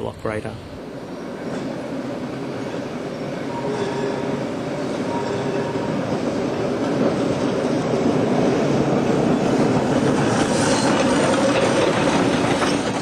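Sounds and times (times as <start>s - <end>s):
tram wheels on rail: 0.0s - 13.0s.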